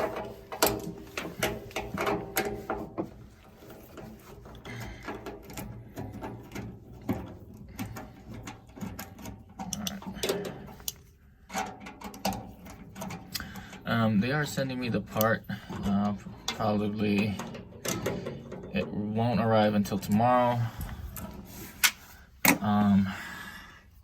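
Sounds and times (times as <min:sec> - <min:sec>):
metallic clicking and rattling: 0:00.0 - 0:22.6.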